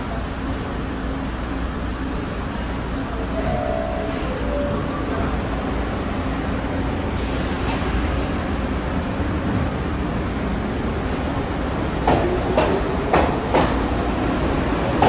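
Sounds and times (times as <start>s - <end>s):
train wheels rumbling on rails: 0.1s - 15.0s.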